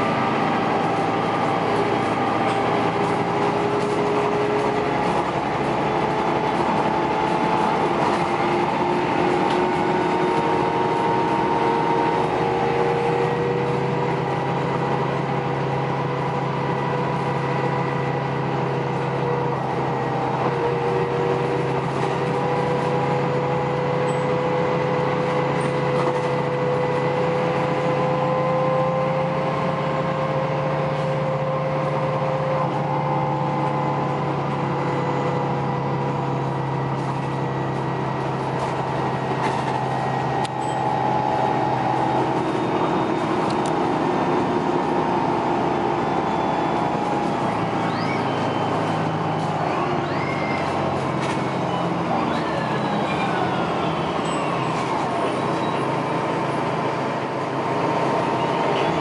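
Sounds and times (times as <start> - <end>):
bus engine drone: 0.0 - 59.0
road noise: 0.0 - 59.0
whine shifting in pitch: 0.0 - 59.0.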